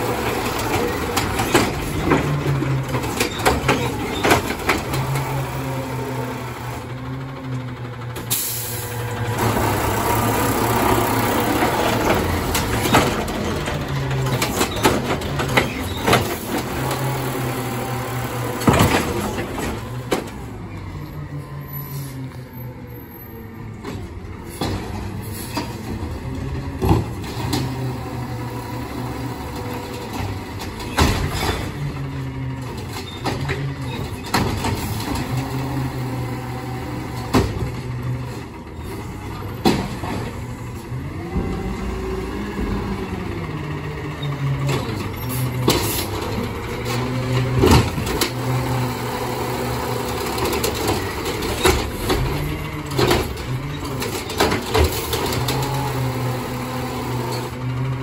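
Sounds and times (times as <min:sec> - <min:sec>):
garbage truck engine revving: 0:00.0 - 0:58.0.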